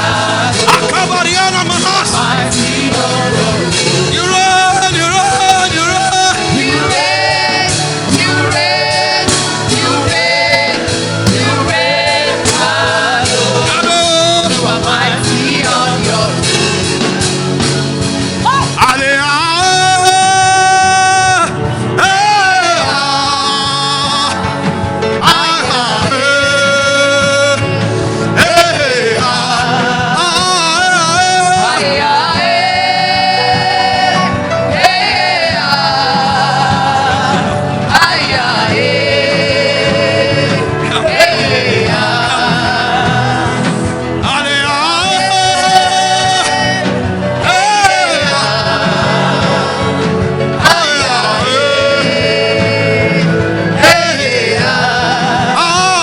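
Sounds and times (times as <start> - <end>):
person singing with vibrato: 0.0 - 17.2, 18.3 - 56.0
instrumental backing: 0.0 - 56.0.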